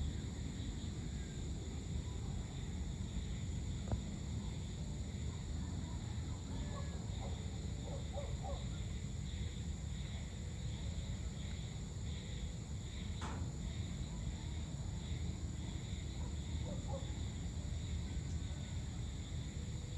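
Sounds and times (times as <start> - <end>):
insects chirring: 0.0 - 19.9.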